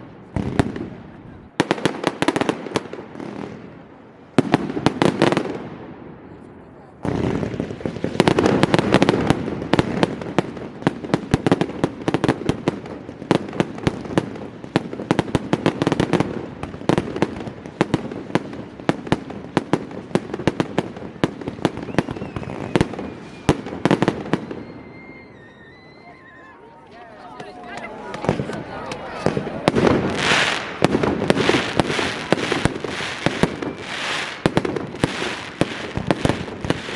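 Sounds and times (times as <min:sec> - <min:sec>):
fireworks sharp cracks: 0:00.0 - 0:06.1, 0:07.0 - 0:25.7, 0:27.4 - 0:36.9.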